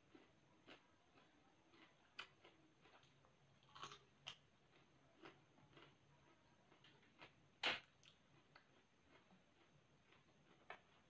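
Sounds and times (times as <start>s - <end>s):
cucumber crunching when chewed: 0.1s - 11.0s.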